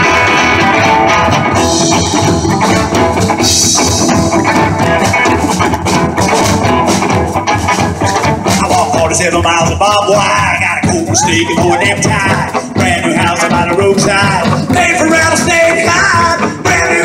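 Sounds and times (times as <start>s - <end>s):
drum kit beat: 0.0s - 17.0s
guitar: 0.0s - 17.0s.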